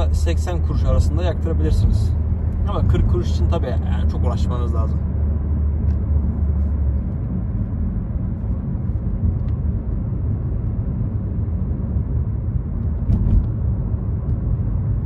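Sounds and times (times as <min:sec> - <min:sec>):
tyre road and engine rumble: 0:00.0 - 0:15.0.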